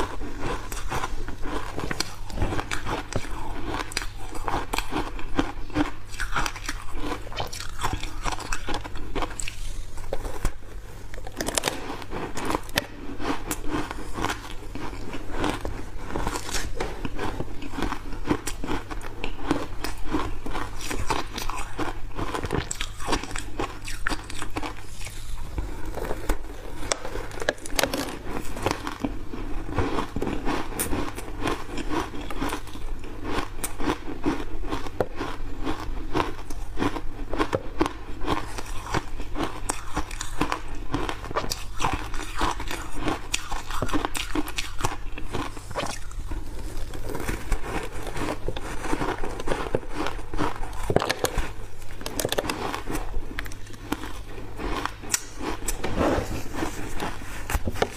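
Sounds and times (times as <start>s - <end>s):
crunching ice: 0.0s - 10.6s, 11.2s - 57.9s.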